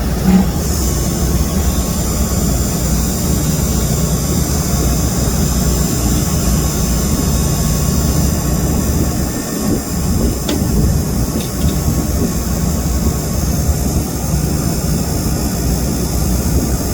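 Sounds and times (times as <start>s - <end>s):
brazing torch flame roaring: 0.0s - 16.8s.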